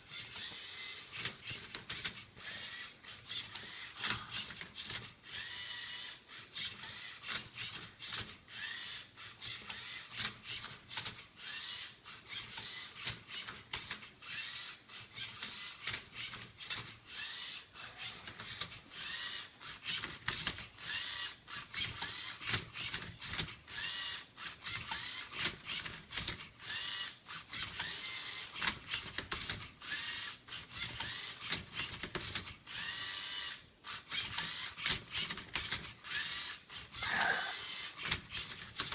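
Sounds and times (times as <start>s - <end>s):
robot motors whirring: 0.1s - 26.0s, 26.6s - 32.0s, 32.7s - 38.9s.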